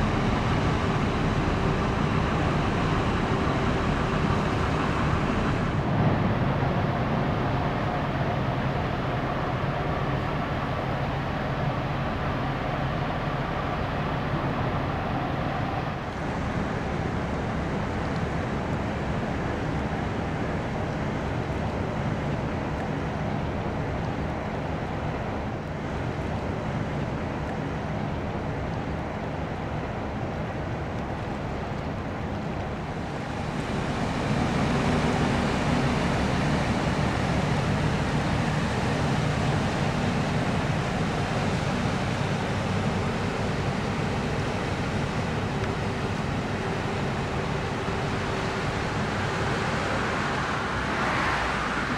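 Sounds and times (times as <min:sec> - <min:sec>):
low rumble of boat engines: 0:00.0 - 0:51.9.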